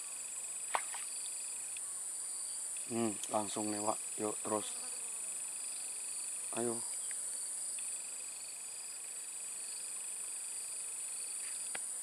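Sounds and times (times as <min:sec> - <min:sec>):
insects buzzing: 0:00.0 - 0:12.0
pulsing insect trill: 0:00.0 - 0:12.0.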